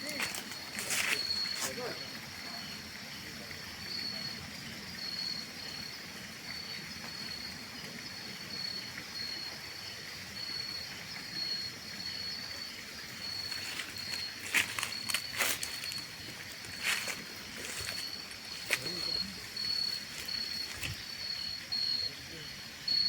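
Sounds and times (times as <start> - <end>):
faint outdoor hiss: 0.0 - 23.0
insects trilling: 0.0 - 23.0.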